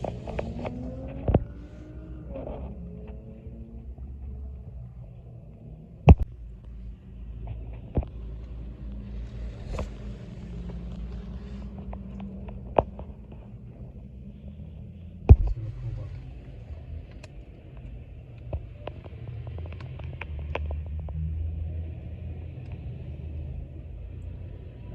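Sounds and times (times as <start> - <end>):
low rumble of road traffic: 0.0 - 24.9.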